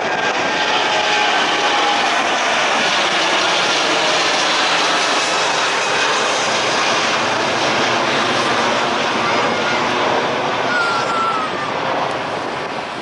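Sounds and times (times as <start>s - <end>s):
jet engines at high power: 0.0s - 13.0s.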